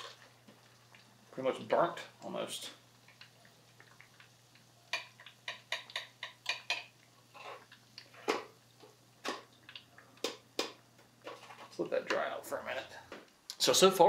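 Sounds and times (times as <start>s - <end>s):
food frying in hot oil: 0.0s - 12.8s.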